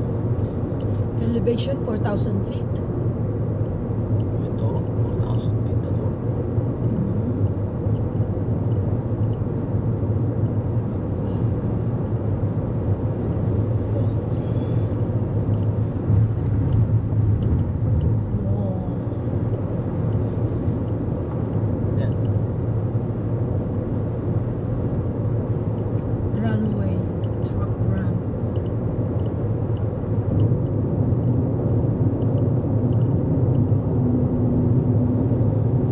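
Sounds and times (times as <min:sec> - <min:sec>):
low engine hum: 0:00.0 - 0:35.9
road and tyre noise: 0:00.0 - 0:35.9.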